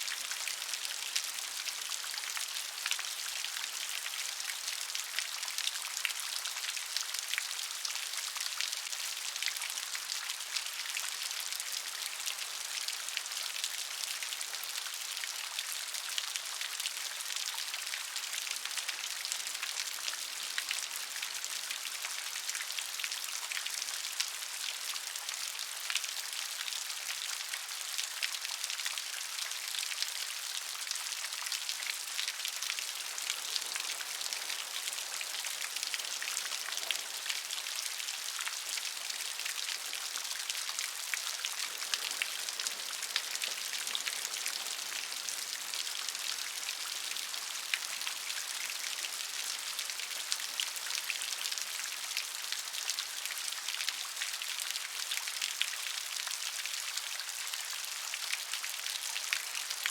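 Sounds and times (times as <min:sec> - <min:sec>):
rain pattering on a surface: 0:00.0 - 0:59.9.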